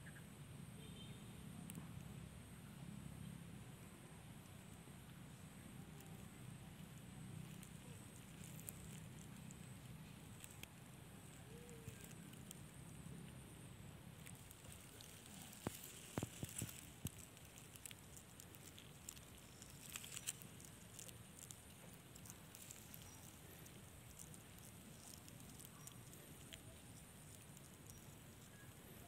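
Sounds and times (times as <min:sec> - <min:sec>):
light ticks and crackles: 0:00.8 - 0:02.8, 0:03.5 - 0:29.0.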